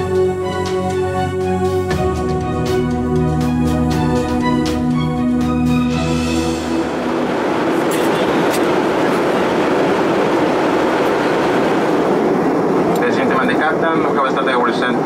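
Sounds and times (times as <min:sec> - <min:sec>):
organ music: 0:00.0 - 0:12.3
airplane cabin engine rush: 0:00.0 - 0:15.0.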